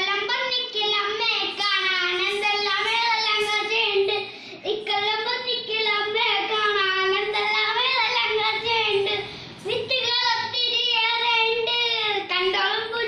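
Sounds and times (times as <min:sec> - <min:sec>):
boy singing folk song: 0:00.0 - 0:13.0.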